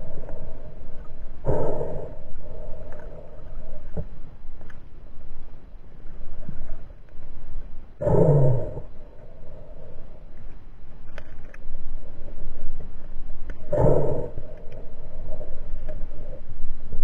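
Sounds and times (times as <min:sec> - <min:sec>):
muffled underwater rushing water: 0:00.0 - 0:17.0.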